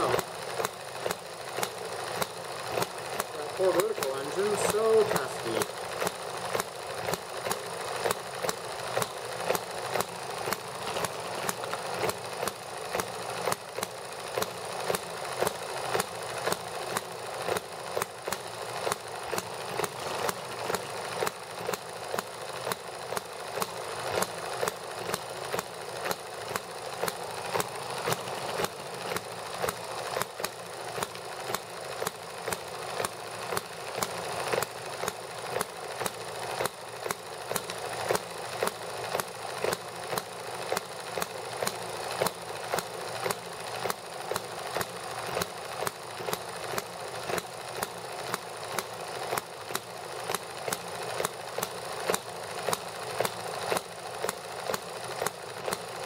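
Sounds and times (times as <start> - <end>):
small model engines running: 0.0 - 56.0.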